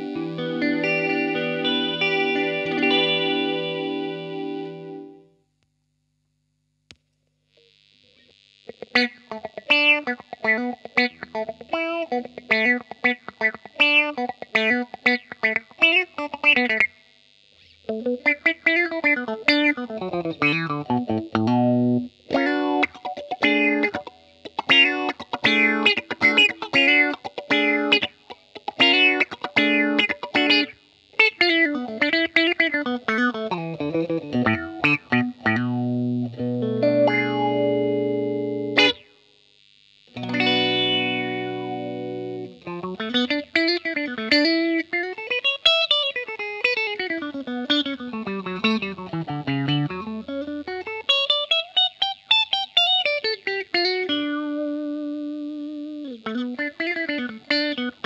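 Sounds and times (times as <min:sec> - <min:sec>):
electric guitar with light drive: 0:00.0 - 0:06.4, 0:07.6 - 0:58.0.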